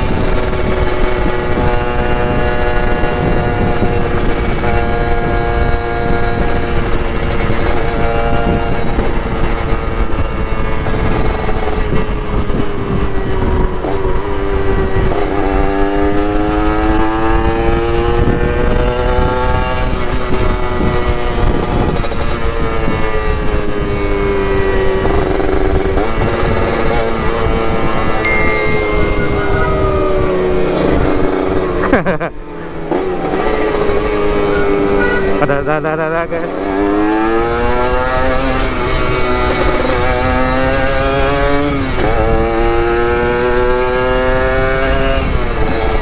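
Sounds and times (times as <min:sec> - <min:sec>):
two-stroke motorcycle engine running: 0:00.0 - 0:28.6, 0:30.2 - 0:46.0.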